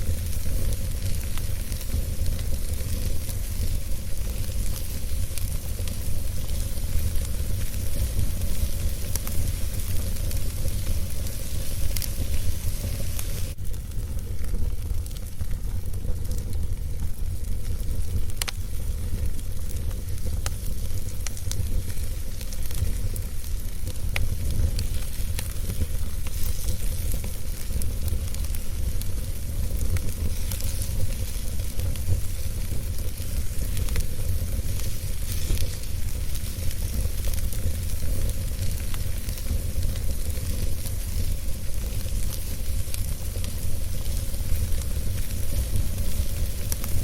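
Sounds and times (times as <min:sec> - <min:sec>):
crackles and pops of burning wood: 0:00.0 - 0:47.0
wood fire rumbling and hissing: 0:00.0 - 0:47.0.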